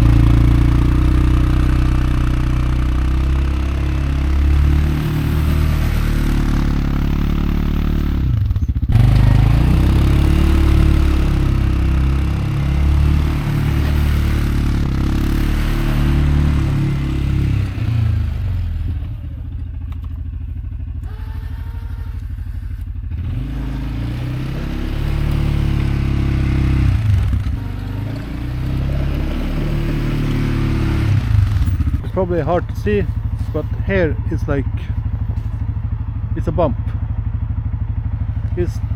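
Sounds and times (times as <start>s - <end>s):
plow scraping through snow: 0.0s - 19.4s, 21.0s - 35.6s
atv engine under load: 0.0s - 38.9s.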